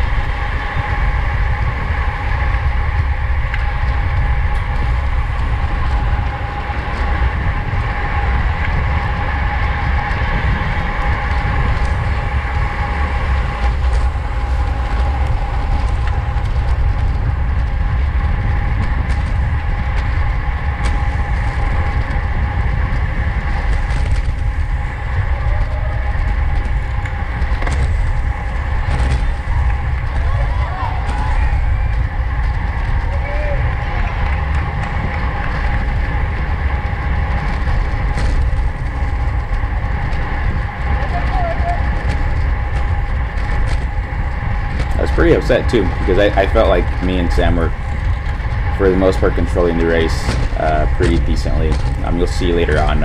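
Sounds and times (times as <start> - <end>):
bike road noise: 0.0 - 53.0
constant high hum: 0.0 - 53.0
wind rush: 0.0 - 53.0.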